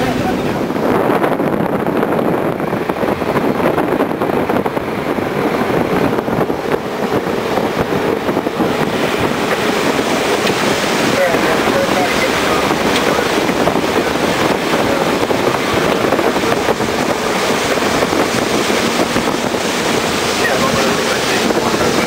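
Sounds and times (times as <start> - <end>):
vehicle rushing noise in storm: 0.0 - 22.0.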